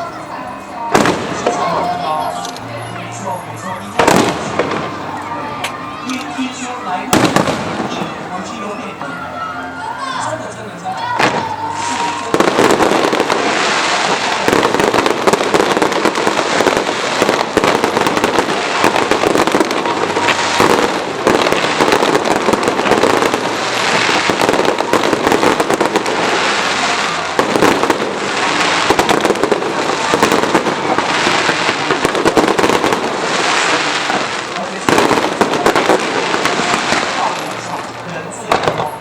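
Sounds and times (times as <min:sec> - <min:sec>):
fireworks bangs and crackling: 0:00.0 - 0:09.2, 0:11.0 - 0:39.0.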